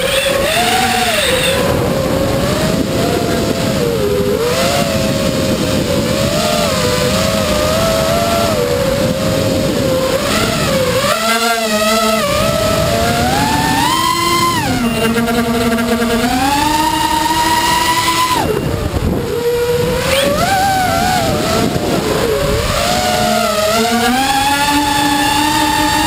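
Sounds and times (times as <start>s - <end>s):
model aircraft motor whine: 0.0s - 26.0s
wind rush on microphone: 0.0s - 26.0s.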